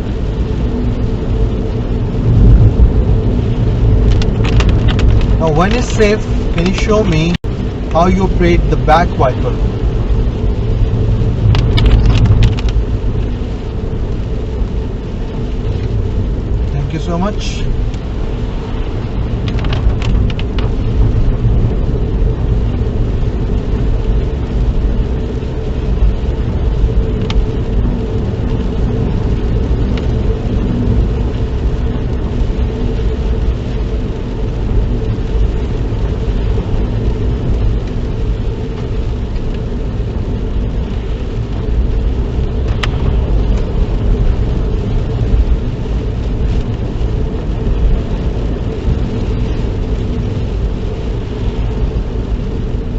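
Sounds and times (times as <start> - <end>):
car cabin road rumble: 0.0 - 52.9.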